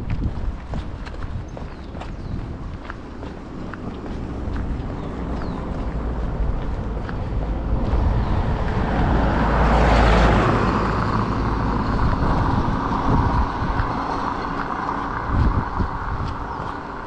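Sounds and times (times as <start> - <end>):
vehicle driving past: 3.2 - 17.0.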